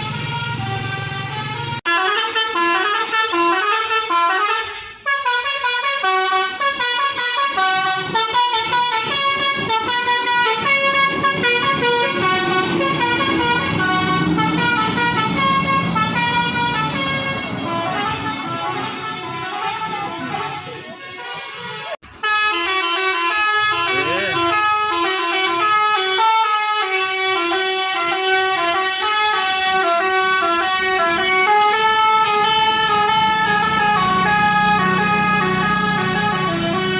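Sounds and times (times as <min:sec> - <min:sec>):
musical bus horn playing tune: 0:00.0 - 0:36.9.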